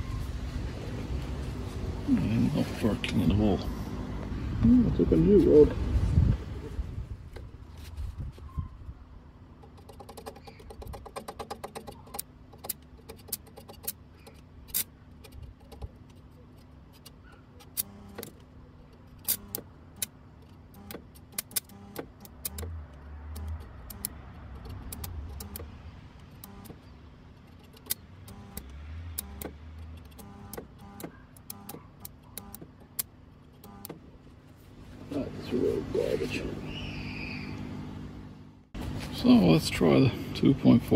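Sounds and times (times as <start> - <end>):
steady low hum: 0.0 - 10.9, 11.6 - 40.9.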